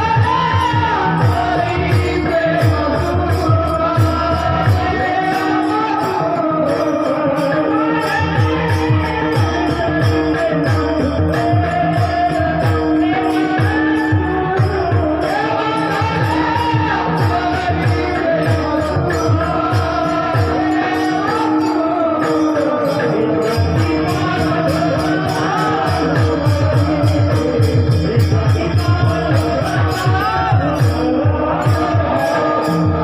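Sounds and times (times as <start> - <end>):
person singing devotional melody: 0.0 - 33.0.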